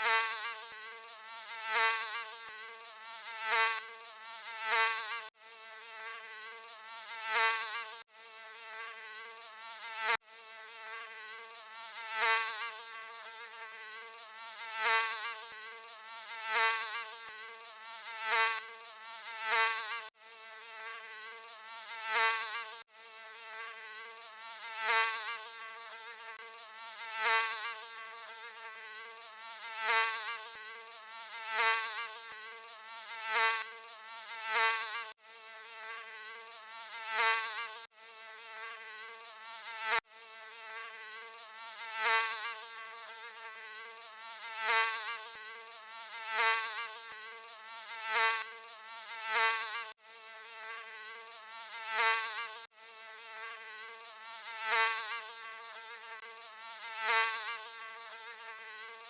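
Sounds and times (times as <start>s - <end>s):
mosquito buzzing: 0.0s - 59.0s.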